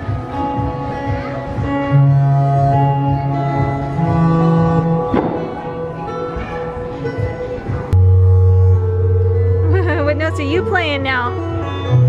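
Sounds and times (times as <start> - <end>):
music of long held notes: 0.0 - 12.0.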